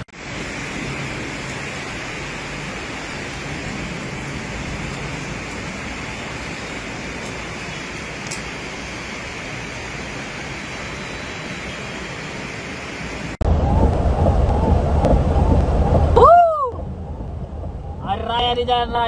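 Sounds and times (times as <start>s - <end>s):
torrential rain and rushing water: 0.0s - 19.0s.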